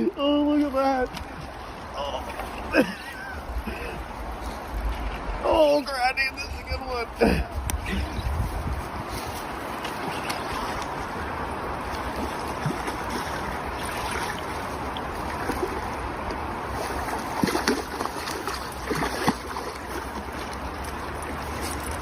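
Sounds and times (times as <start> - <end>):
river water rushing: 0.0 - 22.0
water splashes: 0.0 - 22.0.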